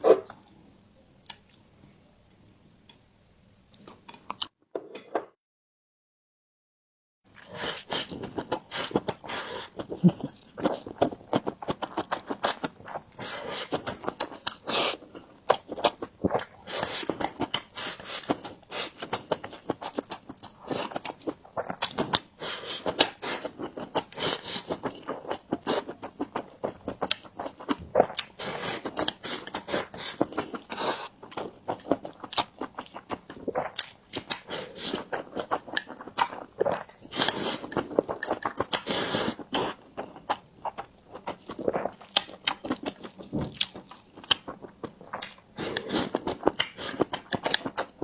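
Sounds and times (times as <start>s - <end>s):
person chewing: 7.4s - 48.0s.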